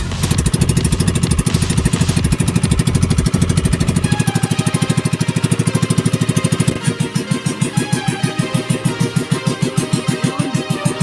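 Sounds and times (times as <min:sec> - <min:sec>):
boat engine puttering: 0:00.0 - 0:11.0.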